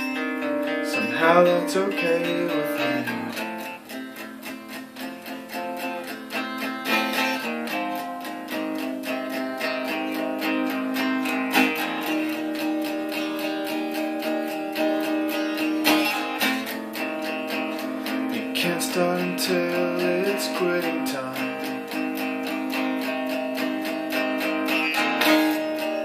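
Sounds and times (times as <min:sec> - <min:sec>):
electric guitar strumming: 0:00.0 - 0:26.0.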